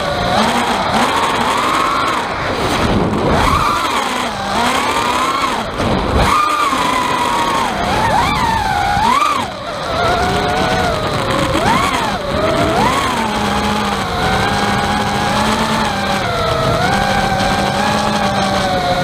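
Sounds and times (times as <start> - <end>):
drone motors whining: 0.0 - 19.0
rough rattling noise: 0.0 - 19.0.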